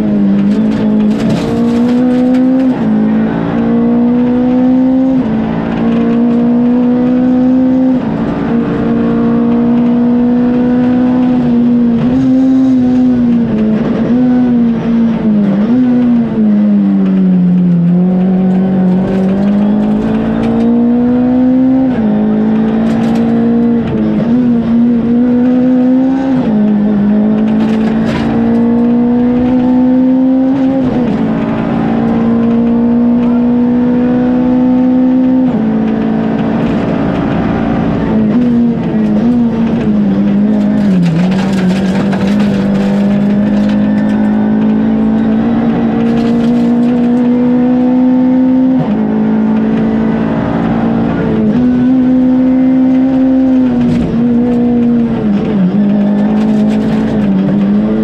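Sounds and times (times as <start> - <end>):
rally car engine revving high: 0.0 - 58.0.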